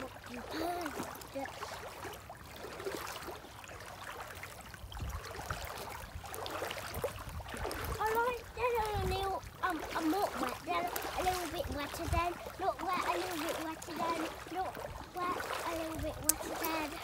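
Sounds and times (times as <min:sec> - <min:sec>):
water sloshing from wading: 0:00.0 - 0:17.0.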